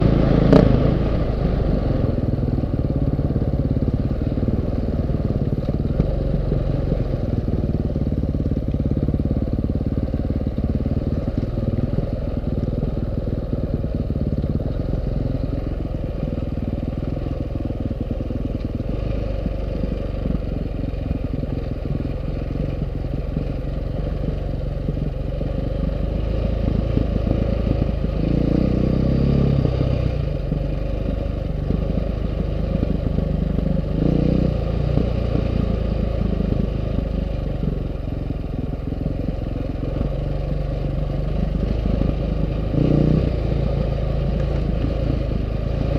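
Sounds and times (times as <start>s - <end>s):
motorcycle engine running: 0.0s - 45.9s
trail rumble: 0.0s - 45.9s
wind: 0.0s - 45.9s.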